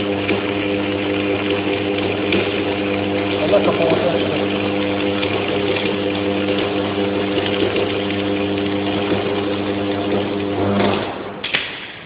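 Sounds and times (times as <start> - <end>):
buzzing mains hum: 0.0 - 11.4
welding arc crackling: 0.0 - 12.0.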